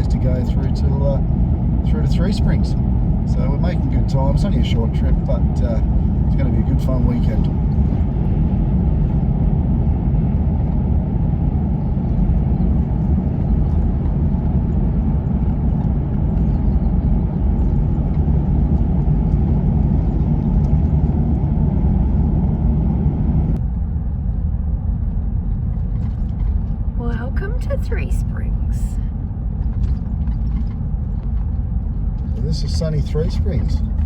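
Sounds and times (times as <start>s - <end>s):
road and engine rumble: 0.0s - 34.0s.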